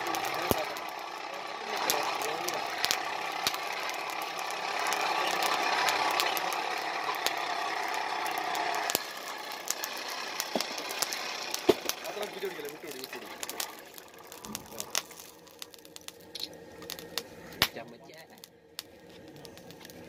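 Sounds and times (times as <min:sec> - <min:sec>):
blower whirring: 0:00.0 - 0:20.0
coals crackling and popping: 0:00.0 - 0:20.0.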